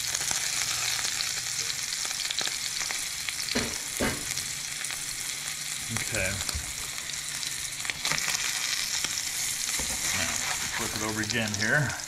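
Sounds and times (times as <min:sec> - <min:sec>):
eggs sizzling in a frying pan: 0:00.0 - 0:12.0.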